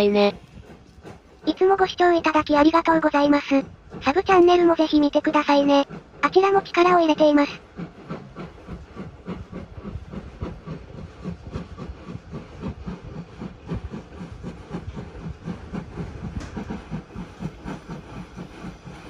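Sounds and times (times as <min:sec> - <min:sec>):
steam locomotive exhaust beating: 0:00.0 - 0:19.0.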